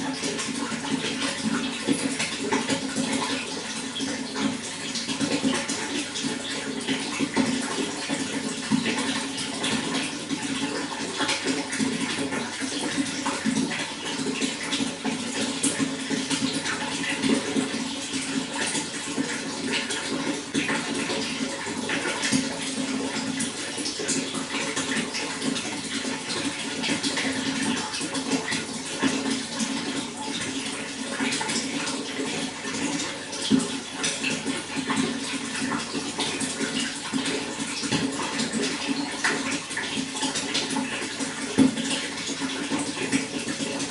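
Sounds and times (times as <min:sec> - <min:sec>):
running water splashing: 0:00.0 - 0:43.9.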